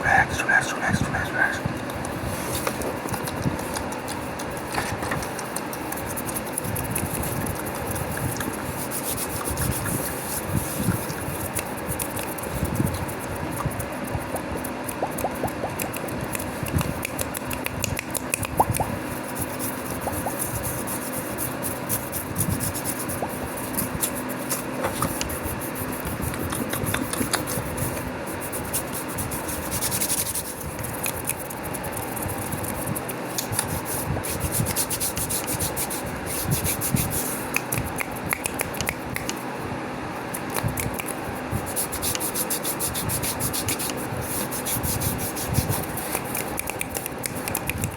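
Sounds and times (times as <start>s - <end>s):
fingernails scratching skin: 0.0s - 39.4s, 40.3s - 47.9s
hands rubbing together: 0.0s - 39.5s, 40.4s - 47.9s.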